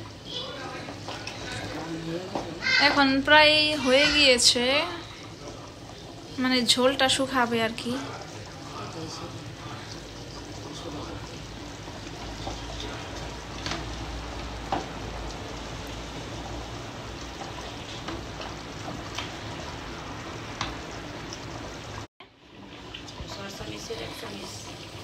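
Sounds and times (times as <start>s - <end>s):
curry simmering and bubbling: 0.0s - 25.0s.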